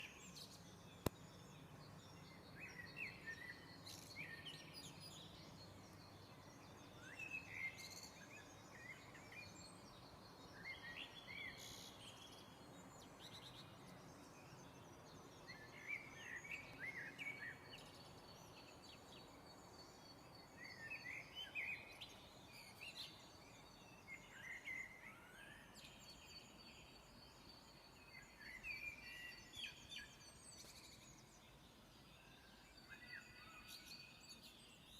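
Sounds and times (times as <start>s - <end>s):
birds singing: 0.0s - 34.9s
soft steady hiss: 0.0s - 34.9s.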